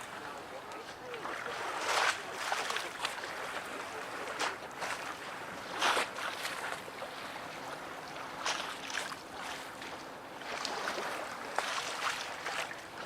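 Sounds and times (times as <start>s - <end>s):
waves splashing against quay wall: 0.0s - 13.0s.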